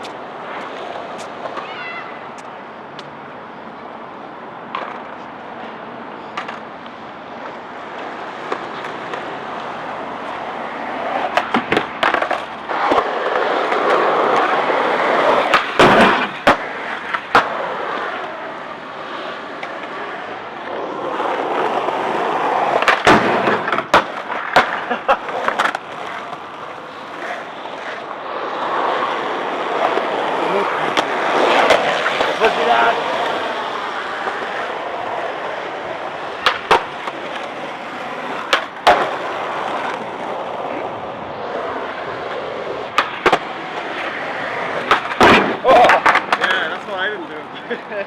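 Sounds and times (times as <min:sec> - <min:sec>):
skateboard wheels rolling and grinding: 0:00.0 - 0:48.0
skateboard clacking down: 0:04.6 - 0:47.9.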